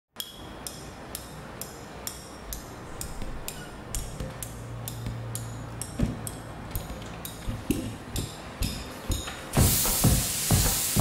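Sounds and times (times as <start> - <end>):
metal tool tapping on metal: 0.2 - 9.6.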